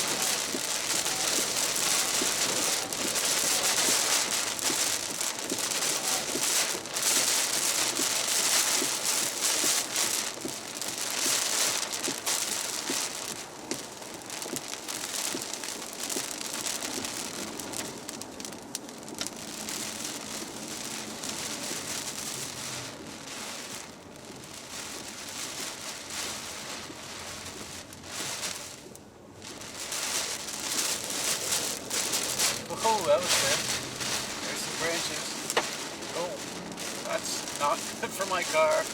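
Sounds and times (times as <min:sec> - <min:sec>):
heavy rain pelting: 0:00.0 - 0:38.9.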